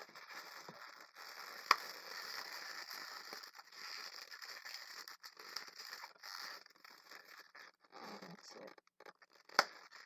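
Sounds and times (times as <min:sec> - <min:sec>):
balloons rustling and rubbing: 0:00.0 - 0:08.5.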